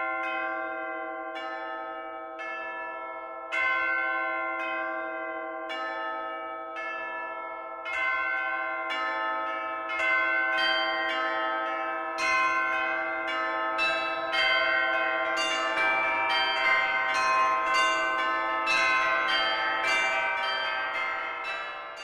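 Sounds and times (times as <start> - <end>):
bells ringing: 0.0 - 22.0.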